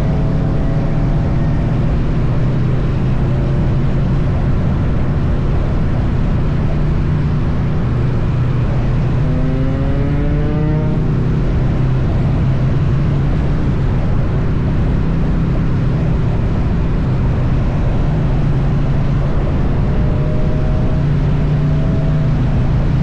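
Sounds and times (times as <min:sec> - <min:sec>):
motorcycle engine running: 0:00.0 - 0:23.0
wind and road rush: 0:00.0 - 0:23.0.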